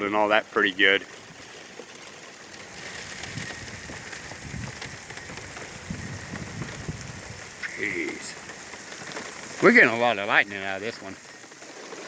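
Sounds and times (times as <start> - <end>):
knocks of large raindrops: 0.0 - 12.0
rain on car windshield: 0.0 - 12.0.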